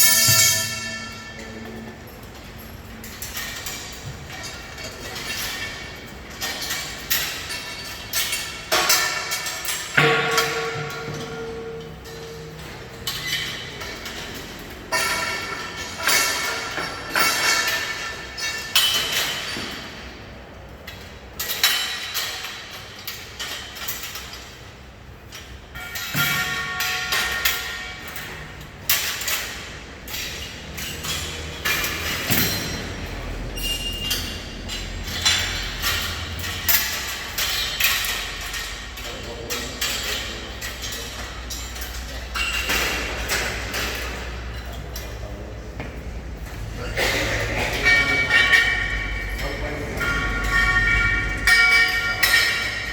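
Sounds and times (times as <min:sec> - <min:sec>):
metal parts clanking and ringing: 0:00.0 - 0:45.5, 0:46.3 - 0:52.9.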